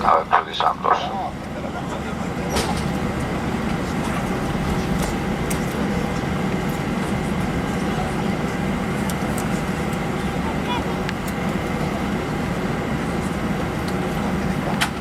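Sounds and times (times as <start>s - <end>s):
airliner cabin rumble and hiss: 0.0s - 15.0s.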